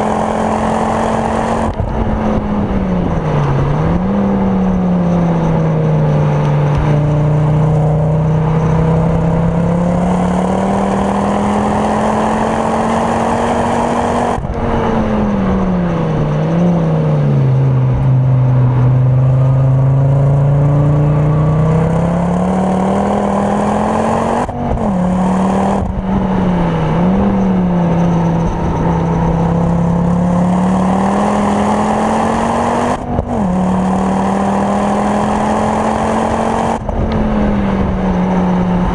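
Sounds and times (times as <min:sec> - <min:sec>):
car engine revving in cabin: 0:00.0 - 0:38.9.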